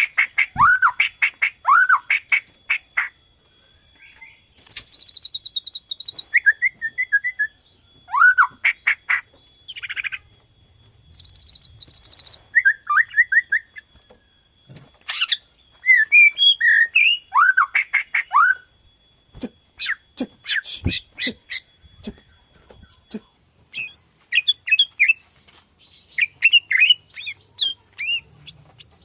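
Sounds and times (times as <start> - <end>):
songbird singing trills and whistles: 0.0 - 29.0.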